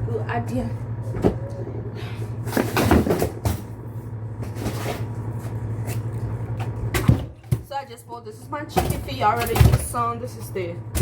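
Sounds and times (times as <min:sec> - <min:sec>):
steady low hum: 0:00.0 - 0:11.0
kitchen things rustling and clattering: 0:00.8 - 0:07.8, 0:08.6 - 0:10.6.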